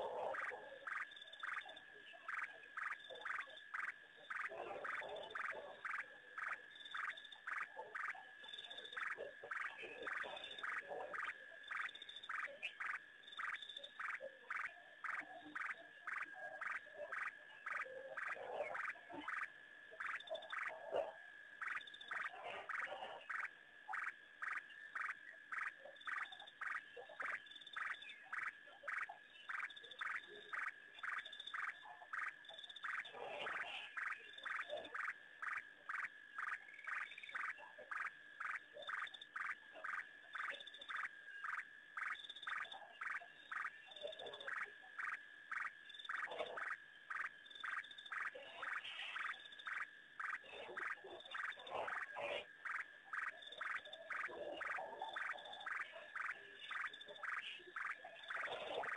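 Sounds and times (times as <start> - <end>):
frog calling: 0.0 - 58.9.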